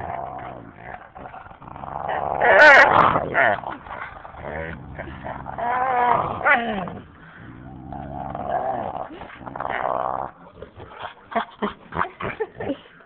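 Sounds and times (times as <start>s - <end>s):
dog play-growling: 0.0s - 12.8s.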